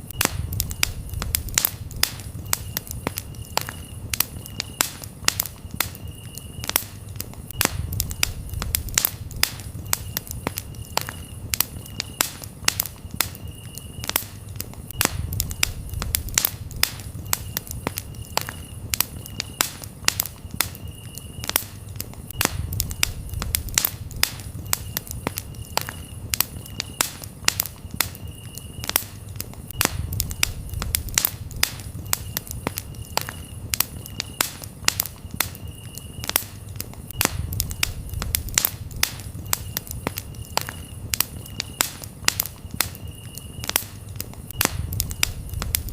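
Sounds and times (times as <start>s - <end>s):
campfire crackling and popping: 0.0s - 45.9s
crickets chirping: 0.0s - 45.9s.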